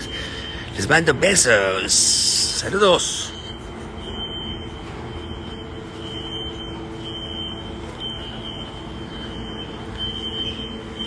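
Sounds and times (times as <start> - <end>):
fire alarm beeping: 0.0 - 11.0
steady low hum: 0.0 - 11.0.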